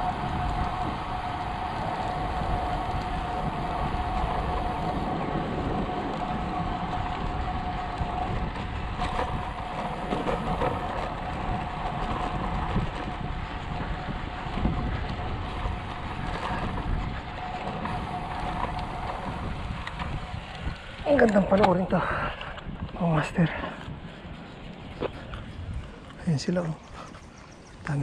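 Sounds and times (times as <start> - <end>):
steady whine: 0.0 - 27.6
wind rushing over microphone: 0.0 - 28.0.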